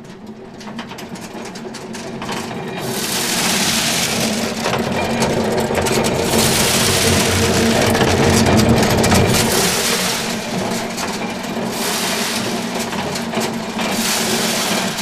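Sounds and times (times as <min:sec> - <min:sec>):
farm machinery clattering: 0:00.6 - 0:15.0
engine hum: 0:01.7 - 0:15.0.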